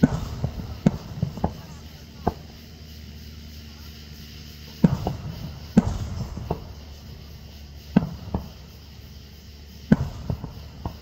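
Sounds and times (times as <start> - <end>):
weaker firework bangs: 0.0 - 3.4, 4.6 - 11.0
fireworks booming: 0.0 - 11.0.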